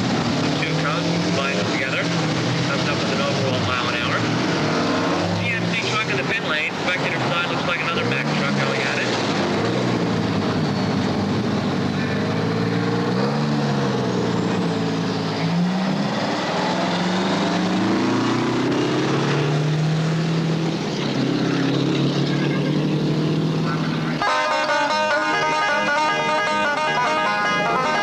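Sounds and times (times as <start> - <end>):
diesel truck engines at full throttle: 0.0 - 28.0.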